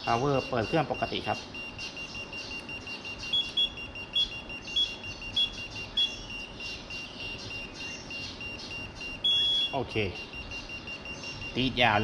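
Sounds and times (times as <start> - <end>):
short high beeps: 0.4 - 11.8.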